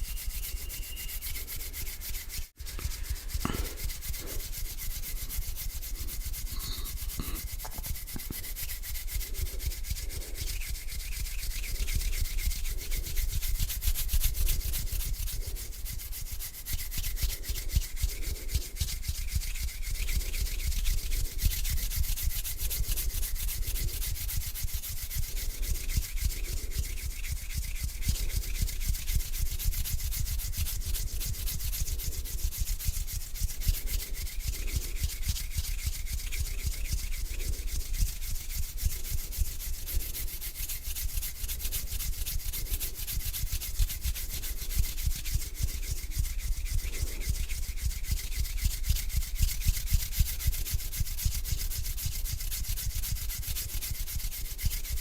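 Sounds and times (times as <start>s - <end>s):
hands rubbing together: 0.0s - 55.0s.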